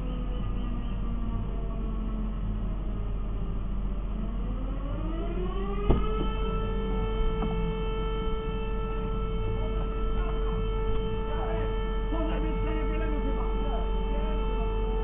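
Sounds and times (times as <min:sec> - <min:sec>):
alarm siren wailing: 0:00.0 - 0:15.0.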